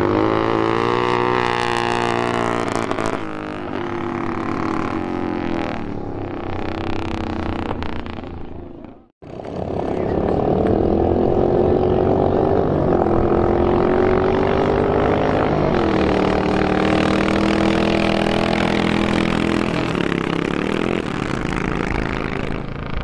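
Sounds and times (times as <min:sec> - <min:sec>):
motorcycles accelerating hard: 0:00.0 - 0:23.0.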